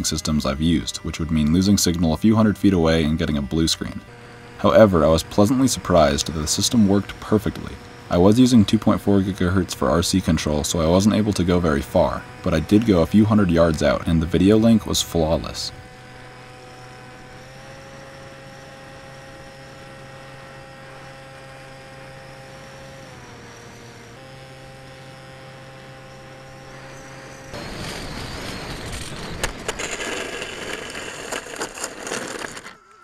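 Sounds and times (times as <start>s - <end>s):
electric motor and propeller whining: 0.0s - 33.0s
plane rolling along asphalt: 0.0s - 33.0s.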